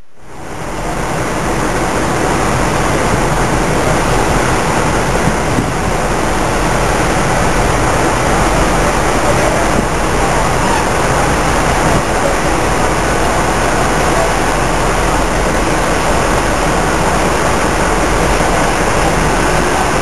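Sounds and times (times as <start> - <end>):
locomotive rushing noise: 0.0 - 20.0
low hum: 0.0 - 20.0.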